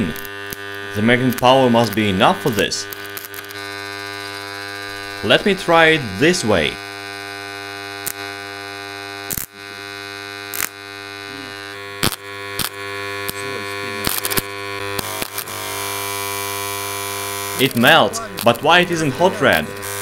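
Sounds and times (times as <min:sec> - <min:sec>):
electric arc snapping and crackling: 0:00.0 - 0:20.0
transformer humming: 0:00.0 - 0:20.0.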